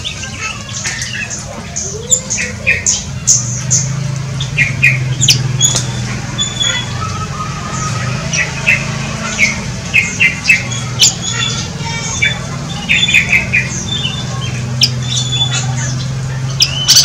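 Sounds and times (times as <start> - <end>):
birds chirping and calling: 0.0 - 17.0
whistled bird notes: 1.0 - 17.0.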